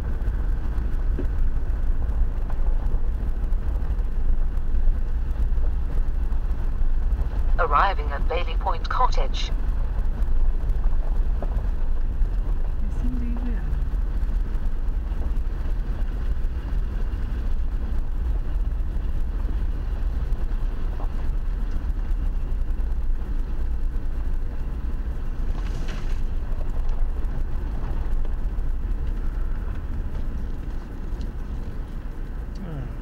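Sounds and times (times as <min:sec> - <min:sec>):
engine and tyre rumble: 0:00.0 - 0:33.0.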